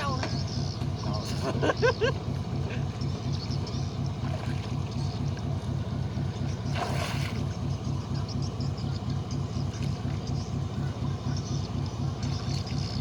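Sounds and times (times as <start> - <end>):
boat engine pulsing rumble: 0.0 - 13.0.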